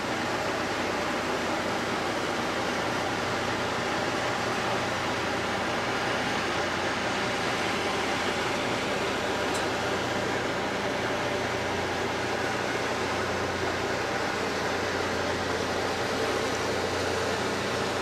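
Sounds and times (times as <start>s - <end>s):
boat engine drone: 0.0s - 18.0s
rushing water: 0.0s - 18.0s.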